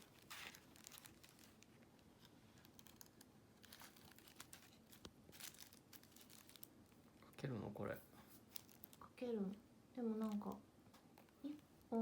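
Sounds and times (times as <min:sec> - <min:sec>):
plastic wrapping crinkling: 0:00.0 - 0:09.3, 0:10.1 - 0:12.0.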